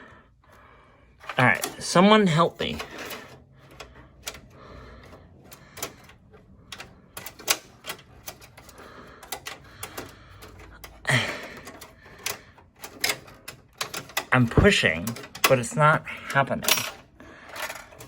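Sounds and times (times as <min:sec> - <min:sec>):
computer parts clicking and tapping: 0:01.2 - 0:18.0.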